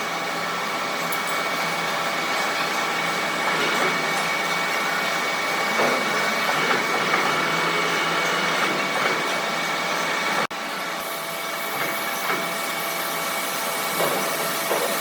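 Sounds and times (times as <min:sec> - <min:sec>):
machine whining and humming: 0:00.0 - 0:15.0.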